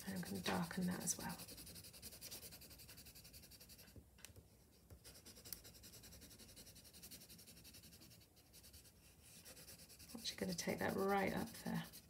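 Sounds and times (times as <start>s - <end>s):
pencil scratching on paper: 0.0s - 3.9s, 5.0s - 12.0s.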